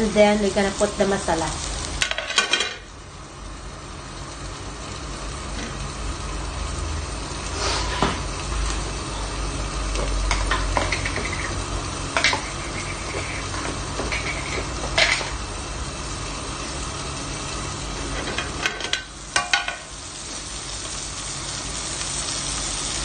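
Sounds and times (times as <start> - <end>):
vegetables sizzling in covered pan: 0.0 - 23.0.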